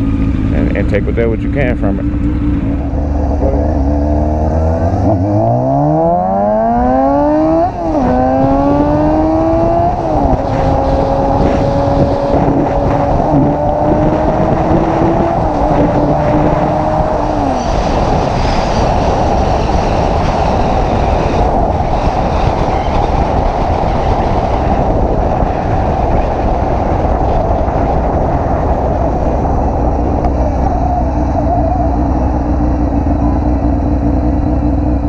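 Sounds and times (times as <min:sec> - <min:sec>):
motorcycle engine: 0:00.0 - 0:35.0
wind rushing over microphone: 0:02.4 - 0:35.0.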